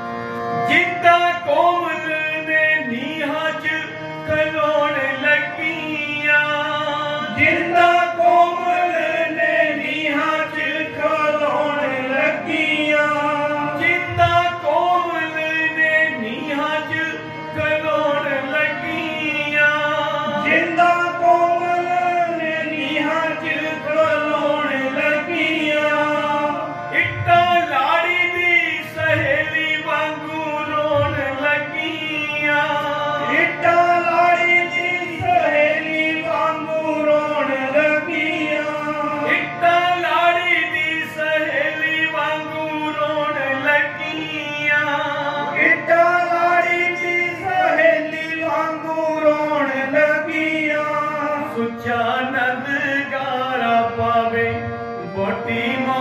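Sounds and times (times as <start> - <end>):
harmonium: 0.0 - 56.0
man singing devotional melody: 0.0 - 56.0
tabla: 0.0 - 56.0.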